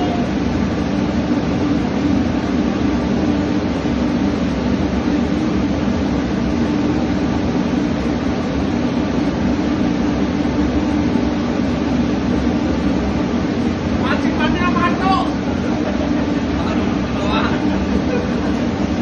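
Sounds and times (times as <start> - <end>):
ship machinery drone: 0.0 - 19.0.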